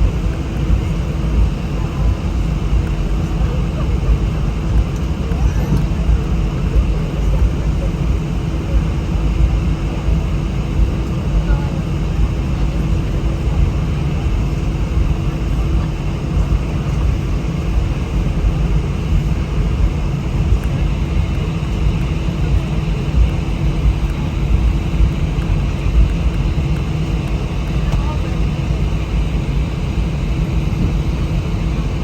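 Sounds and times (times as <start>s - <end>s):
jet engines humming: 0.0s - 32.0s
low cabin rumble: 0.0s - 32.0s.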